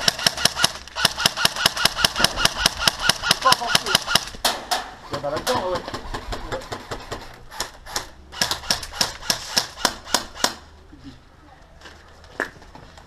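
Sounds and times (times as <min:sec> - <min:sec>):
airsoft guns firing: 0:00.0 - 0:10.7.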